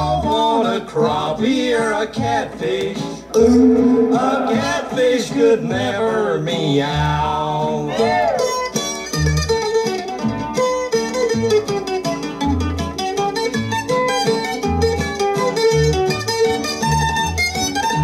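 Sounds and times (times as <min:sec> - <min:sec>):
acoustic guitar and bass: 0:00.0 - 0:18.0.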